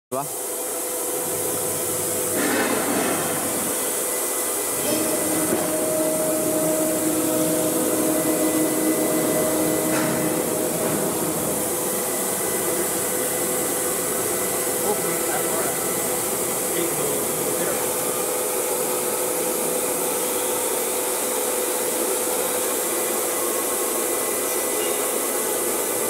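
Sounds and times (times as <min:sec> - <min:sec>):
mechanical hum: 0:00.1 - 0:26.0
cnc router whooshing whir: 0:00.3 - 0:26.0.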